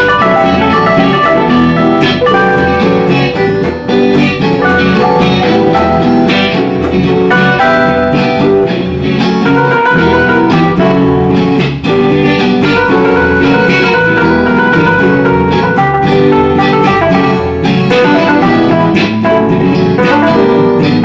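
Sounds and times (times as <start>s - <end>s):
live band with electric guitars: 0.0s - 21.0s.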